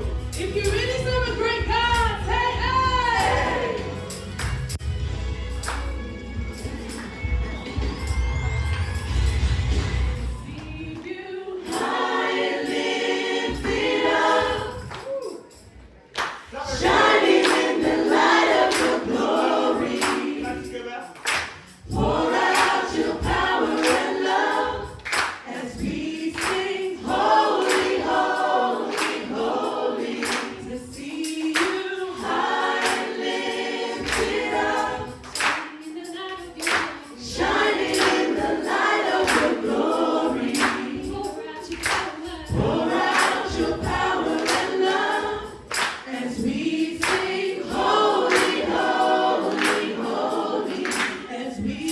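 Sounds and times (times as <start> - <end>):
choir singing a worship song: 0.0 - 4.8, 5.4 - 51.9.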